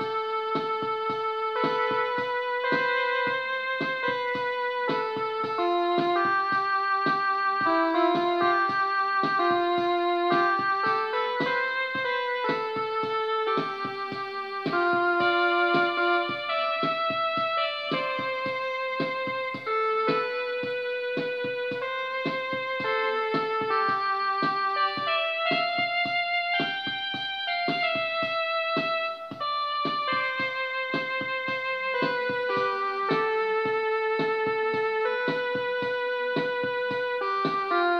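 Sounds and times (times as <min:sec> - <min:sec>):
electronic keyboard melody: 0:00.0 - 0:37.9
steady beat: 0:00.0 - 0:37.9.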